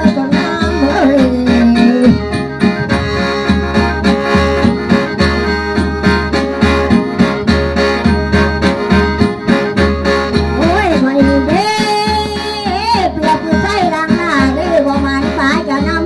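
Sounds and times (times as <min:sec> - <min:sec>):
low drum beat: 0:00.0 - 0:16.0
mouth organ playing dance tune: 0:00.0 - 0:16.0.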